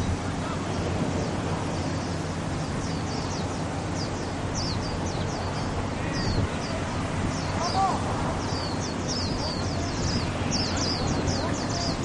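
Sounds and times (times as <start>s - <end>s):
small birds chirping: 0.0s - 12.0s
steady low background rumble: 0.0s - 12.0s.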